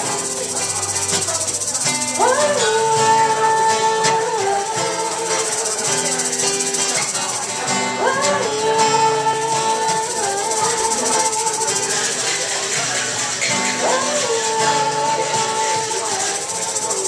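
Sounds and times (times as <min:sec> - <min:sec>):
continuous high rattle: 0:00.0 - 0:17.0
small band playing: 0:00.0 - 0:17.0.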